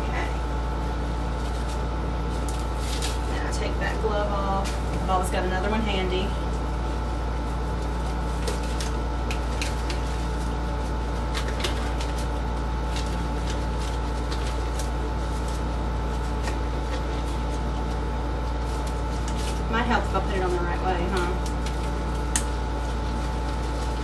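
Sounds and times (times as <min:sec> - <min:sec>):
low mechanical hum: 0:00.0 - 0:24.0
disposable glove crinkling: 0:01.1 - 0:03.6, 0:06.4 - 0:24.0.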